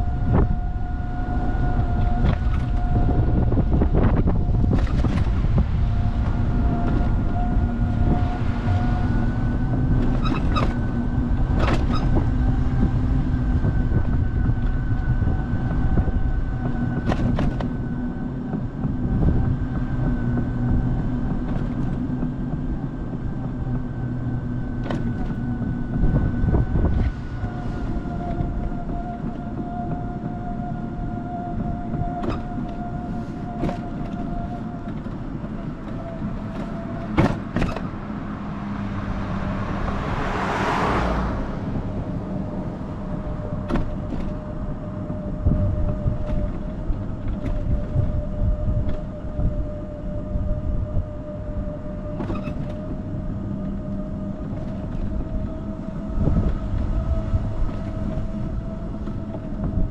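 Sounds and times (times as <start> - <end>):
car road and engine noise: 0.0 - 59.9
knocks and rattles over bumps: 1.6 - 38.8, 41.7 - 59.9.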